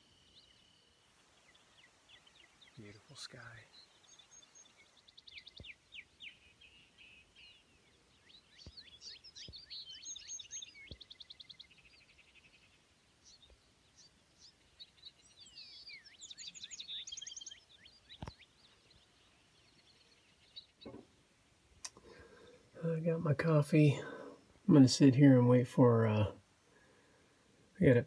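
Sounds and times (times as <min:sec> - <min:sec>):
songbirds chirping faintly: 0:00.0 - 0:28.0.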